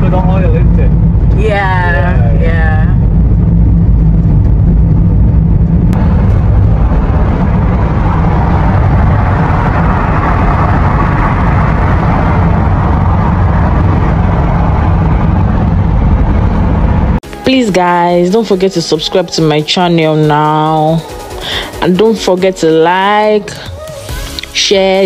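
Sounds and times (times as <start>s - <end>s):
engine and tyre rumble: 0.0s - 24.7s.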